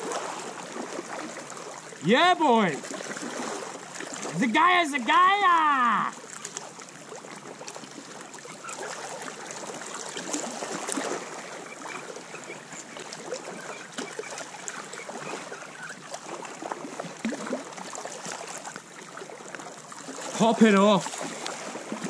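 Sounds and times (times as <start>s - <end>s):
sea water washing among rocks: 0.0s - 12.3s, 16.4s - 22.0s.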